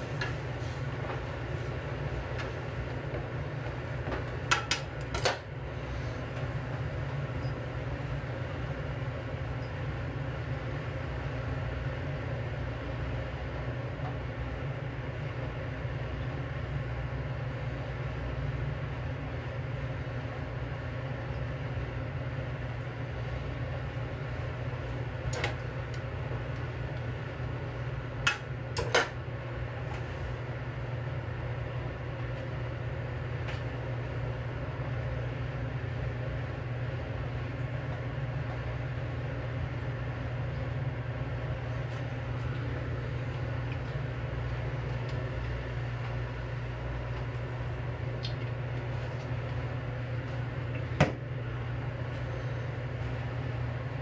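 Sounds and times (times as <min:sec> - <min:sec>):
gas burner rumbling: 0:00.0 - 0:54.0.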